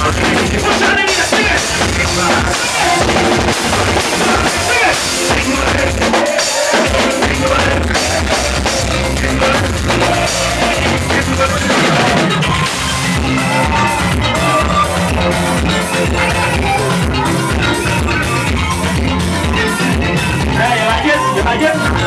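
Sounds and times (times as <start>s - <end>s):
soca music with heavy bass: 0.0s - 22.0s.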